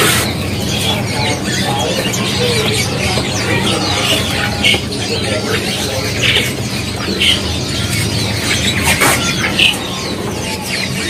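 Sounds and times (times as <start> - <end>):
songbirds chirping: 0.0 - 11.0
steady low hum: 0.0 - 11.0.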